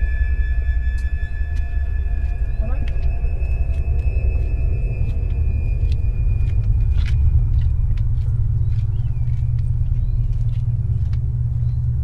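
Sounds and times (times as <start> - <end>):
loud low rumble: 0.0 - 12.0
footsteps on concrete: 1.0 - 11.9.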